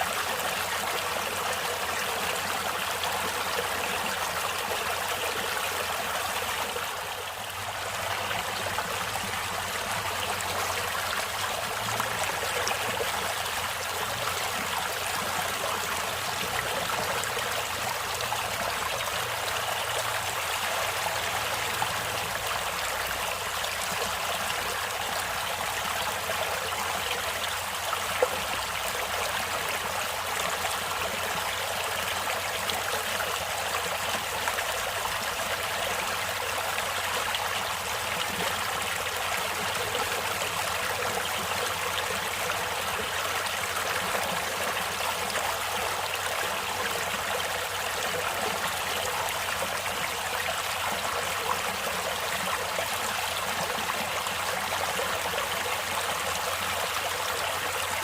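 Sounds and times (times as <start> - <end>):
stream rushing and babbling: 0.0 - 58.0.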